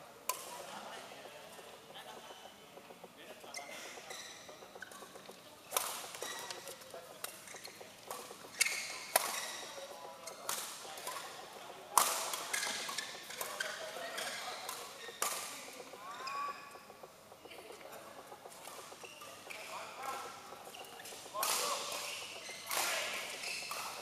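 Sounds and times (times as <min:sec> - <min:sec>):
racquets hitting shuttlecock: 0:00.3 - 0:03.2, 0:03.9 - 0:24.0
shoes squeaking on court: 0:00.3 - 0:24.0.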